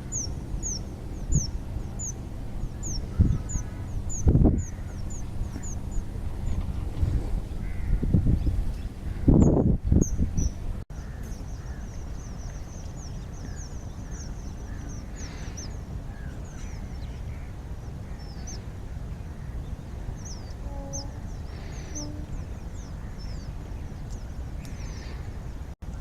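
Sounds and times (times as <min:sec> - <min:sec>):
low bird calls: 0:00.0 - 0:06.8, 0:07.4 - 0:25.4
birds chirping: 0:00.0 - 0:26.0
low buffeting noise: 0:00.0 - 0:26.0
steady low rumble: 0:00.0 - 0:26.0.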